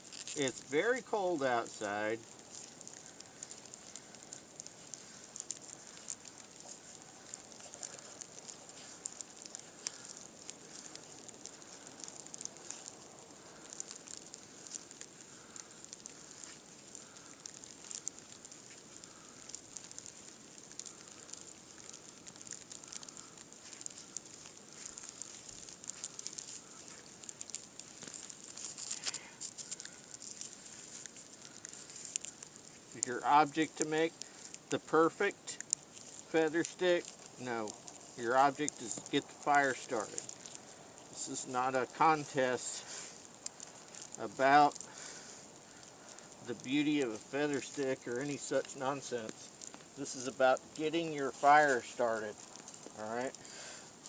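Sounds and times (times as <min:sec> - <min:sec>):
small crackly clicks: 0:00.0 - 0:54.0
steady high hiss: 0:00.0 - 0:54.0.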